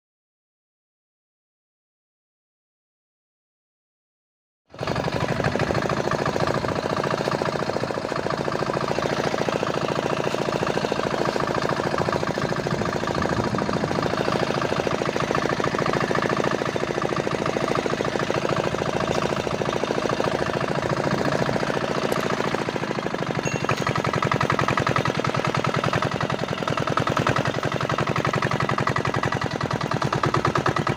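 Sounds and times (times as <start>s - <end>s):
boat engine chugging: 4.7s - 30.9s.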